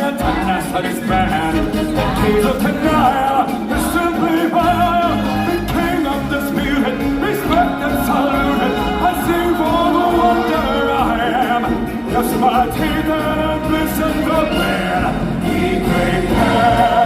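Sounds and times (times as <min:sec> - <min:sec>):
group singing stage music: 0:00.0 - 0:17.0.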